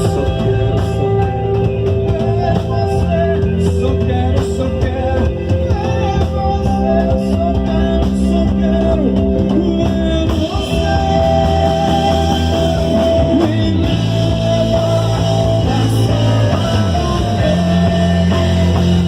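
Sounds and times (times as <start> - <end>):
bass guitar: 0.0 - 19.0
drums: 0.0 - 19.0
electric guitars: 0.0 - 19.0
keyboard: 0.0 - 19.0.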